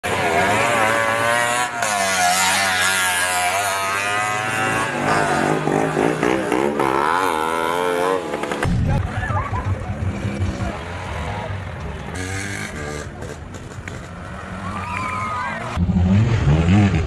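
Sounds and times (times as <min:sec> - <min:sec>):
auto-rickshaw engines revving: 0:00.0 - 0:17.0.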